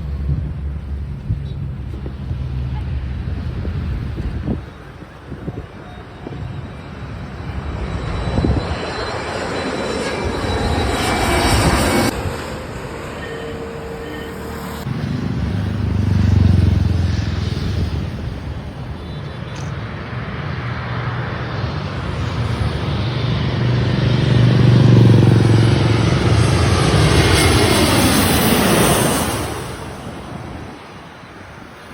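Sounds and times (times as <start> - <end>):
jet airliners passing overhead: 0.0 - 31.9
sliding jet engine whine: 0.0 - 31.9.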